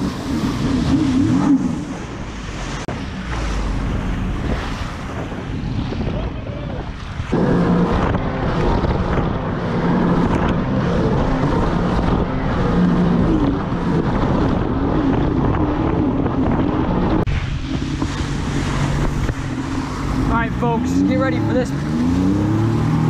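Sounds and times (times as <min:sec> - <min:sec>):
jet ski engine running: 0:00.0 - 0:23.0
rushing water: 0:00.0 - 0:23.0
wind buffeting microphone: 0:00.0 - 0:23.0.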